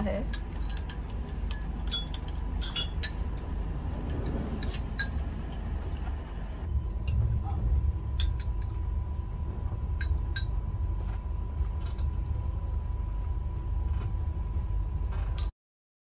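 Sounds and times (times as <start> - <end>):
train rumbling: 0.0 - 15.5.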